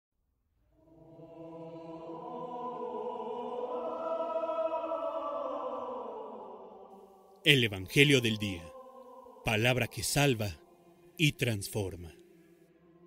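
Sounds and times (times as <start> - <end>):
slow choral chant: 0.7 - 13.0.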